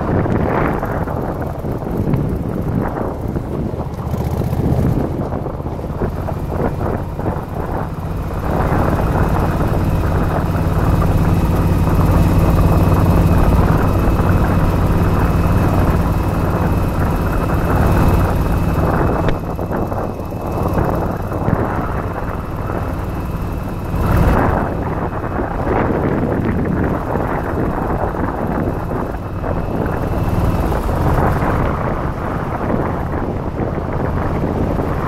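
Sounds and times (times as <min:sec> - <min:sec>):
motorcycle engine running: 0:00.0 - 0:35.0
wind buffeting microphone: 0:00.0 - 0:35.0.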